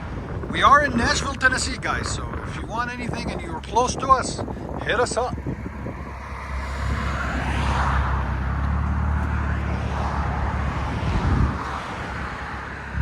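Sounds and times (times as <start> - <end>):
low car exhaust note: 0.0 - 13.0.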